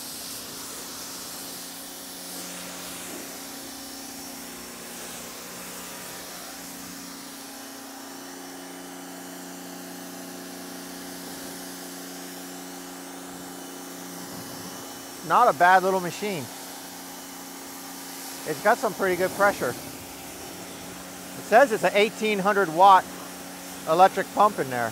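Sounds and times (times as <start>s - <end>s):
pressure washer motor humming: 0.0s - 24.9s
water jet hissing on car: 0.0s - 24.9s.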